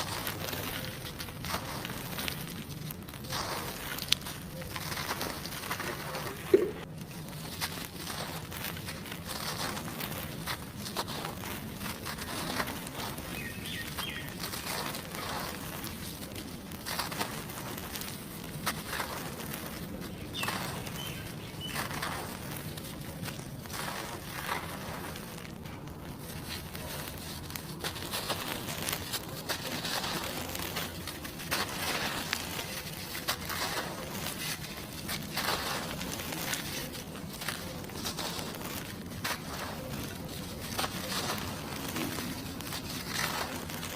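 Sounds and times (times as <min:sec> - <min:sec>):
dry cement crumbling: 0:00.0 - 0:43.9.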